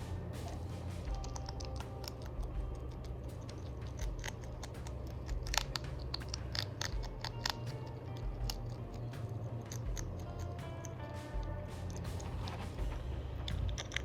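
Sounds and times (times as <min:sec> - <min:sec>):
hedgehog chewing crunchy snack: 0:00.0 - 0:14.0.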